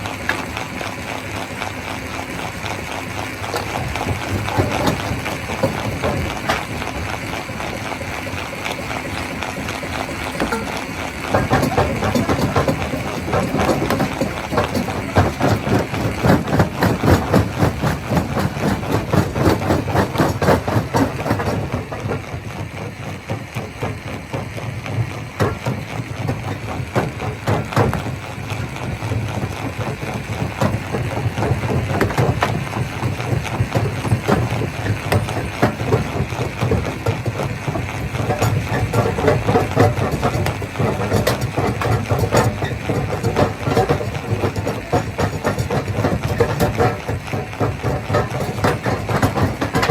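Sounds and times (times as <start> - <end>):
engine drone: 0.0 - 49.9.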